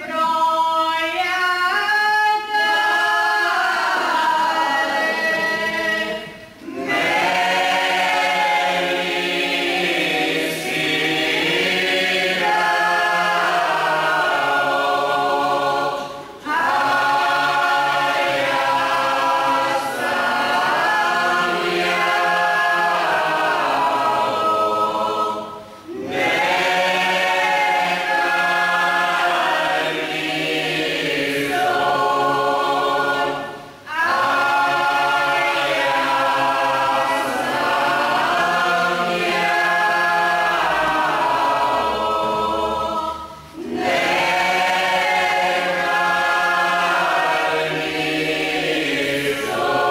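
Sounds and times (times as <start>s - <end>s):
choir singing a hymn unaccompanied: 0.0s - 49.9s.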